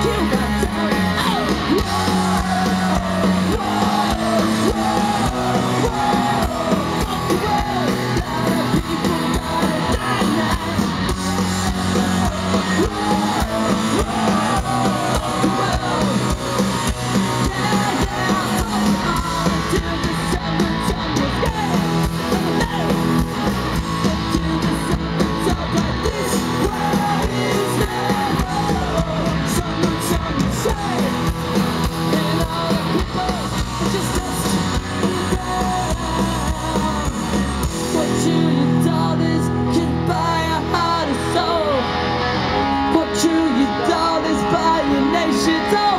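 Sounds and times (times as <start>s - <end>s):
person shouting singing: 0.0s - 31.4s, 32.0s - 42.0s, 42.9s - 45.9s
punk rock band playing: 0.0s - 45.9s.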